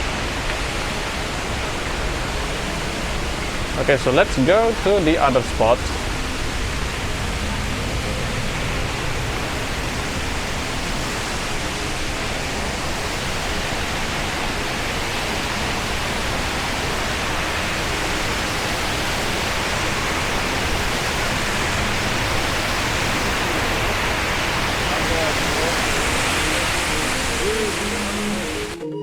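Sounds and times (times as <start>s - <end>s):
waterfall pouring into a pool: 0.0s - 28.8s.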